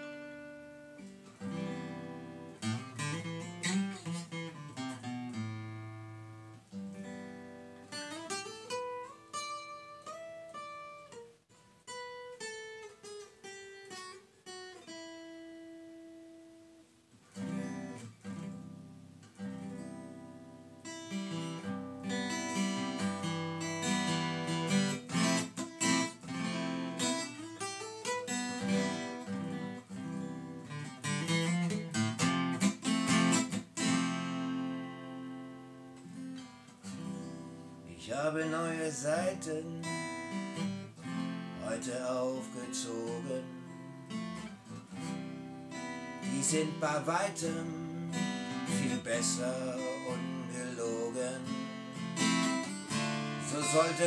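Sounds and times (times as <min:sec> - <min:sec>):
acoustic guitar playing: 0:00.0 - 0:54.0.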